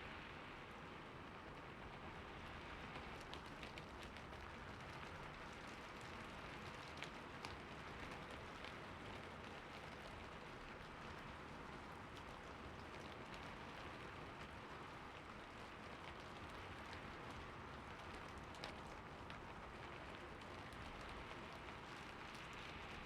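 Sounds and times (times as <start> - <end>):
soft rain falling: 0.0 - 23.0.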